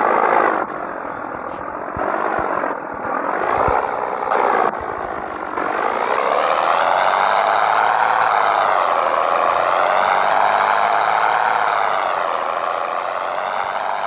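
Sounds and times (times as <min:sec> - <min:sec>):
truck diesel engine pulling away: 0:00.0 - 0:14.0.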